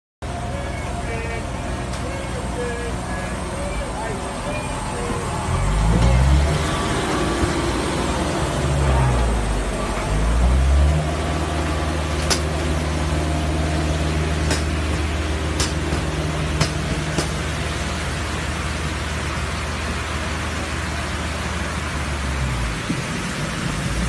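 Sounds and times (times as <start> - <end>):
low machinery rumble: 0.2 - 24.0.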